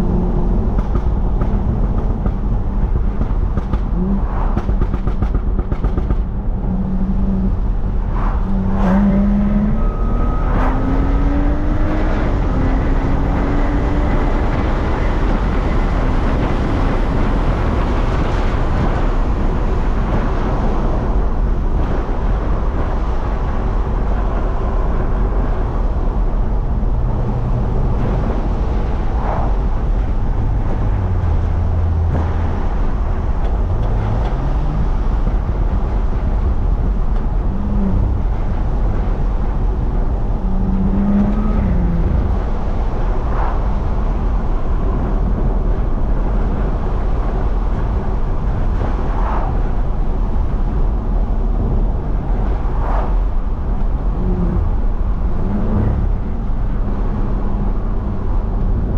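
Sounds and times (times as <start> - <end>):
car engine droning: 0.0 - 58.9
road noise: 0.0 - 58.9.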